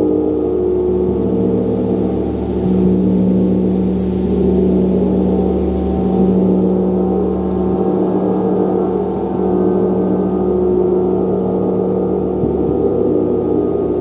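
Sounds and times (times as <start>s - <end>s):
gong shimmering: 0.0s - 14.0s.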